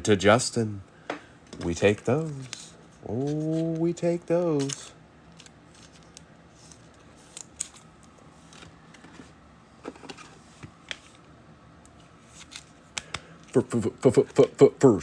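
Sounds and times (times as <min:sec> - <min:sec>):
cards clicking and rustling: 0:01.1 - 0:11.3, 0:11.9 - 0:14.6.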